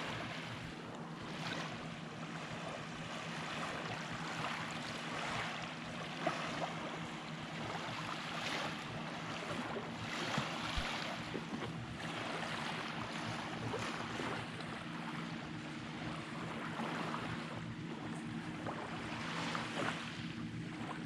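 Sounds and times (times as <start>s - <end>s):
small waves washing onto beach: 0.0s - 21.0s.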